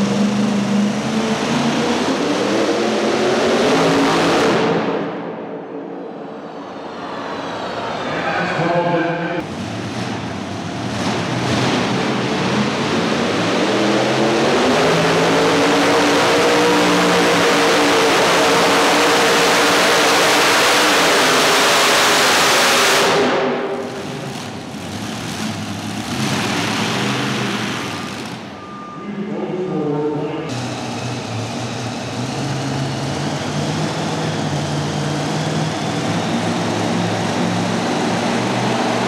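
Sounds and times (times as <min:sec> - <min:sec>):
pulling tractor engines roaring: 0:00.0 - 0:04.9, 0:06.7 - 0:39.0.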